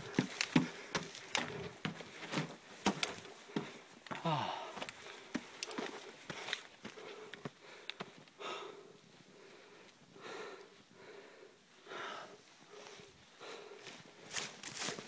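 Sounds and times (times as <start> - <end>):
person breathing hard: 0.0 - 14.5.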